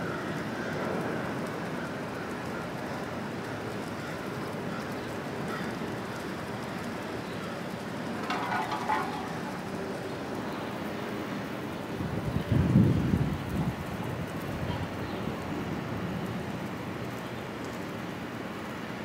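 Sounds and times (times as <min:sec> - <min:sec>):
outdoor city noise: 0:00.0 - 0:19.0.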